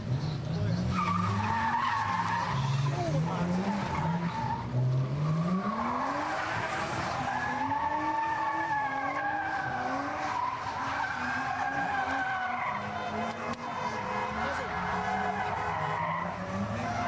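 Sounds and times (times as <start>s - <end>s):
car engine revving: 0.0s - 17.0s
tyres skidding on tarmac: 0.0s - 17.0s.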